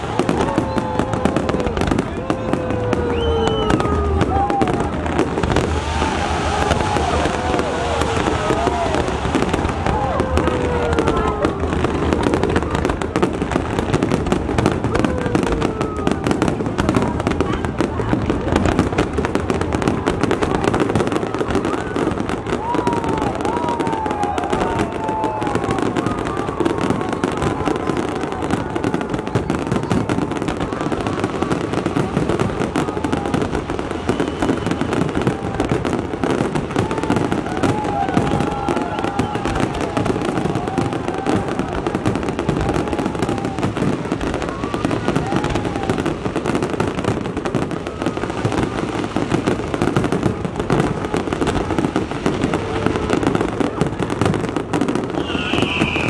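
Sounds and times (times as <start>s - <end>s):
fireworks banging and crackling: 0.0s - 56.0s.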